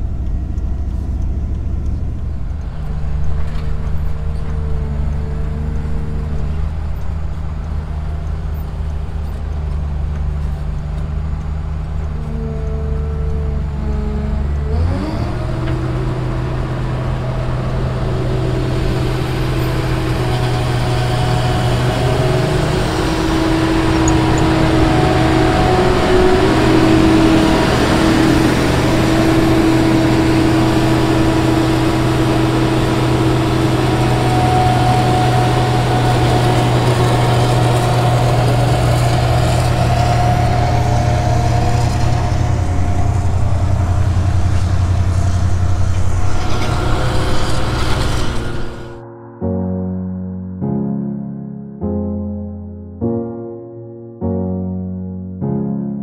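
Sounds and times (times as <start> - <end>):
combine harvester driving past: 0.0 - 49.0
engine revving: 0.0 - 49.0
truck engine humming: 0.0 - 49.0.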